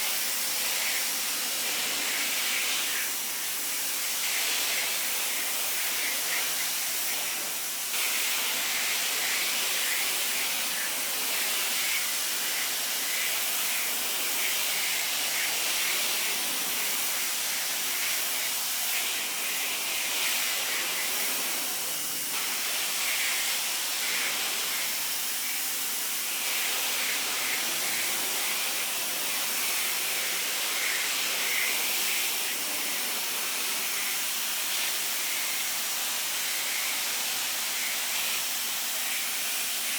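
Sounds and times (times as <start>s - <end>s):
pressure washer water jet spraying: 0.0s - 39.9s
pump motor hum: 0.0s - 39.9s.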